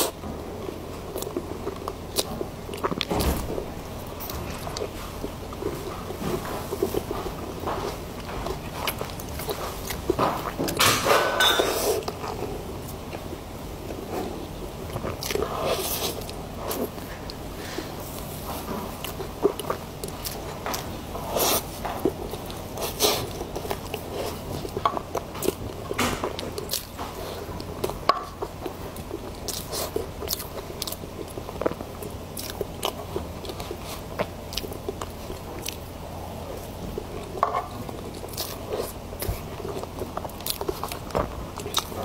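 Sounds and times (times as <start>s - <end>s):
person chewing cake: 0.0s - 42.0s.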